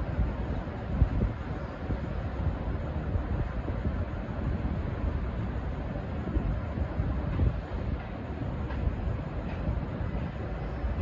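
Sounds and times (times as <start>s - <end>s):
train engines and wheels rumbling: 0.0s - 11.0s.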